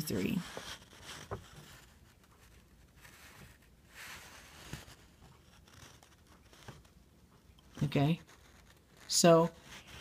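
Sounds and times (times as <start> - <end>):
soft rustle: 0.0 - 10.0.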